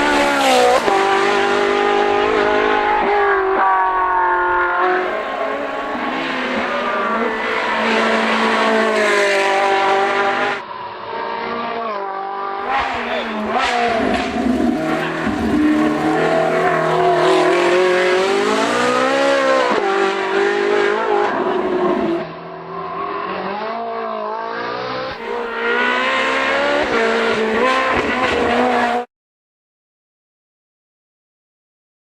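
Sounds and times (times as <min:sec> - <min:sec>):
car engine revving hard: 0:00.0 - 0:29.1.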